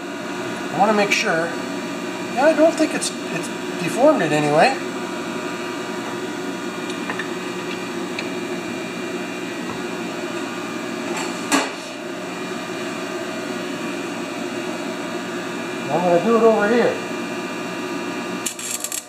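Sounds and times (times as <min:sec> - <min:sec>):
welder humming: 0:00.0 - 0:19.0.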